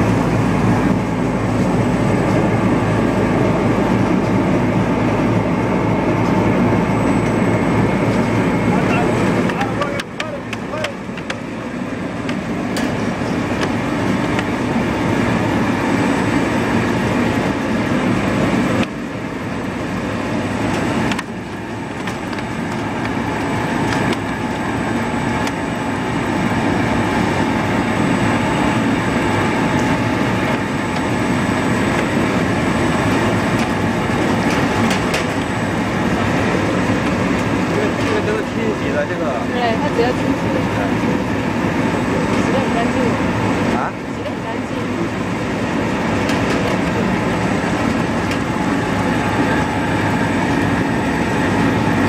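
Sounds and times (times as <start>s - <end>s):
potato peeling machine rumbling: 0.0s - 52.0s.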